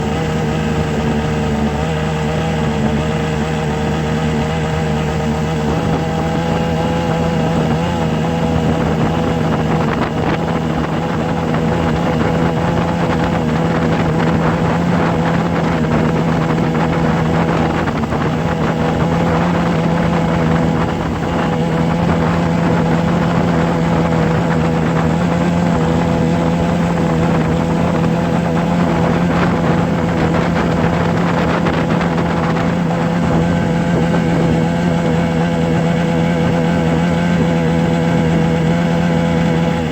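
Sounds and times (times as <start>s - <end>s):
mechanical drone: 0.0s - 39.9s.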